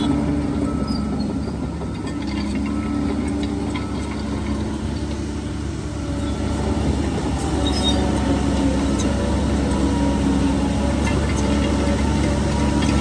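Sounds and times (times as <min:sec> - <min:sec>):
diesel machine rumbling: 0:00.0 - 0:13.0.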